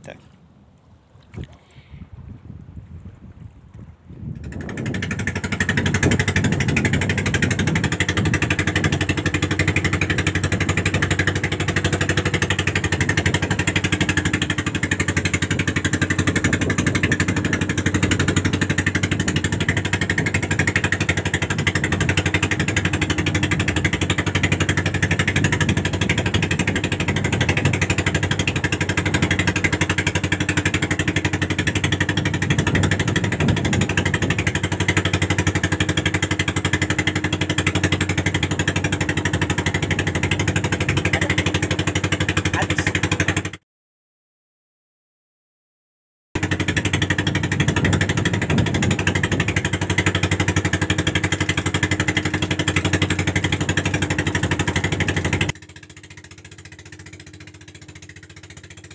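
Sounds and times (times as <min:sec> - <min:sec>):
boat engine droning: 0:00.0 - 0:43.6, 0:46.4 - 0:58.9.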